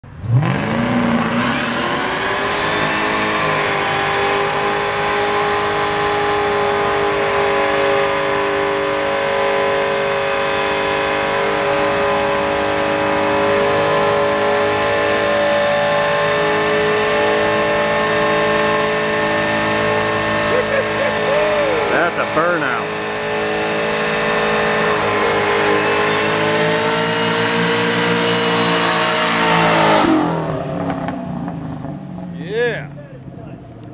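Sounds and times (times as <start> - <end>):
car engine at high revs: 0.0 - 33.9.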